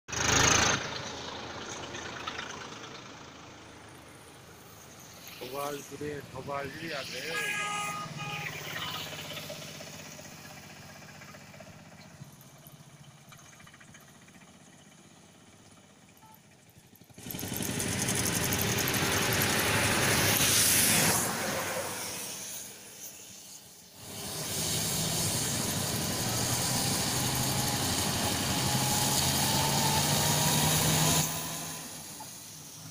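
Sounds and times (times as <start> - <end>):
tyres hissing on wet road: 0.1 - 12.9, 17.1 - 32.9.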